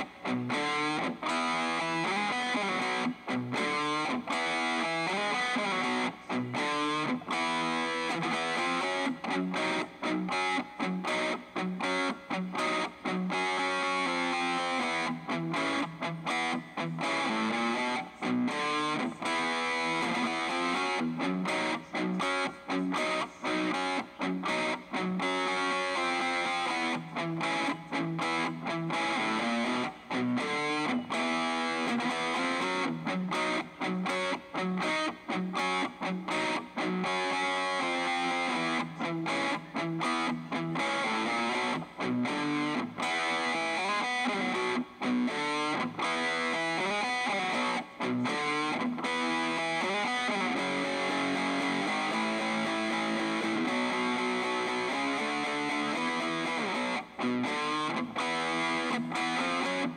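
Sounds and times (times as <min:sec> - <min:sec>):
distorted electric guitar riffs: 0:00.0 - 0:59.9.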